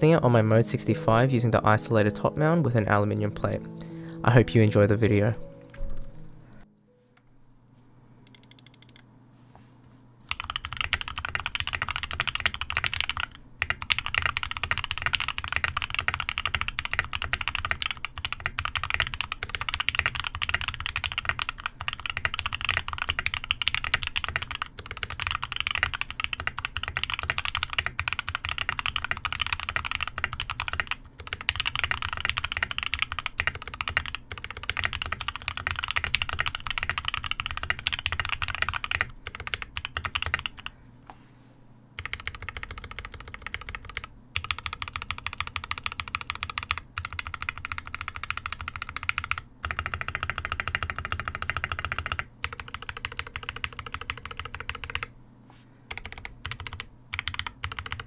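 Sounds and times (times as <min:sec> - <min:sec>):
fast mechanical keyboard typing: 0:08.3 - 0:09.0, 0:10.3 - 0:40.7, 0:42.0 - 0:55.1, 0:55.9 - 0:58.0.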